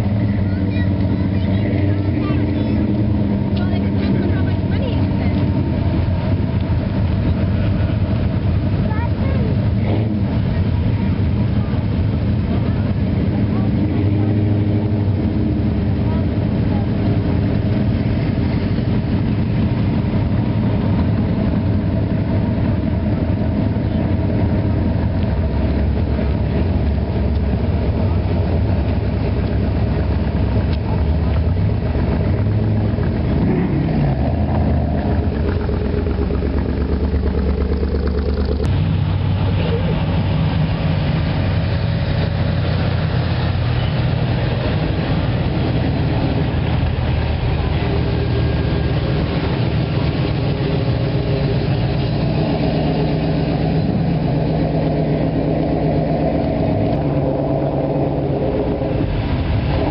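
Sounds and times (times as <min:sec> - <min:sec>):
engine revving: 0:00.0 - 0:59.9
hot-rod engines idling: 0:00.0 - 0:59.9.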